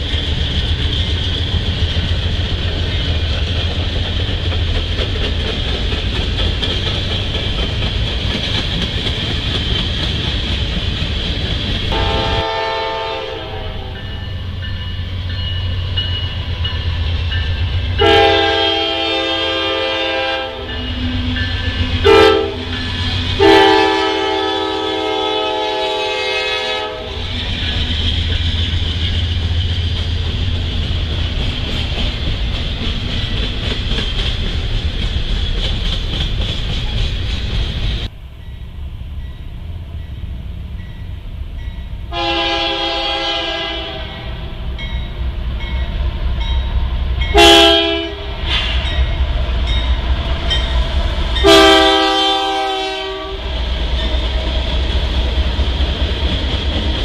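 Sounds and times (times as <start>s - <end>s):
diesel locomotives rumbling past: 0.0s - 57.0s.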